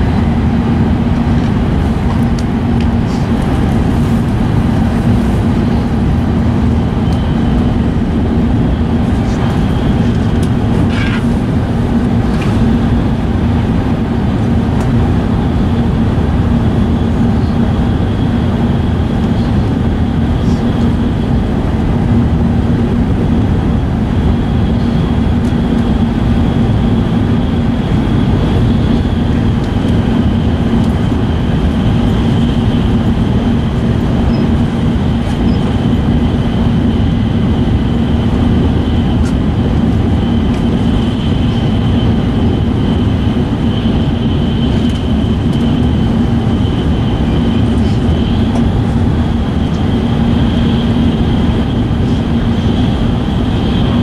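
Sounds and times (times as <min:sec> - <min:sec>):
faint high whine: 0:00.0 - 0:54.0
train rumble from inside: 0:00.0 - 0:54.0.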